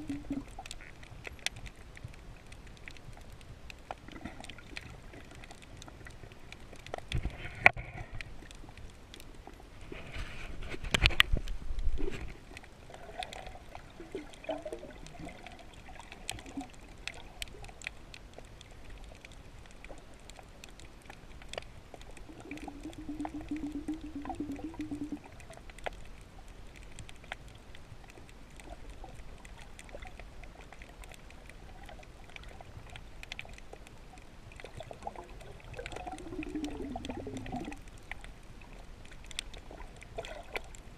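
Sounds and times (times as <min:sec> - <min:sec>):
sharp underwater clicks: 0:00.0 - 0:09.6, 0:10.8 - 0:40.9
muffled underwater water noise: 0:00.0 - 0:40.9.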